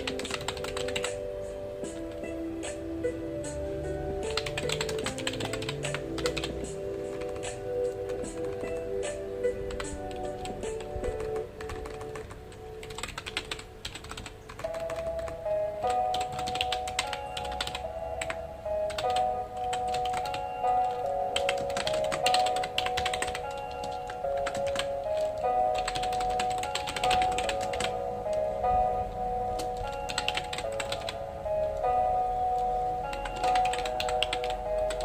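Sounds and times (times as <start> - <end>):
computer keyboard typing: 0.0 - 2.8, 4.2 - 28.5, 29.6 - 31.9, 32.6 - 35.0
soft background music: 0.0 - 35.0.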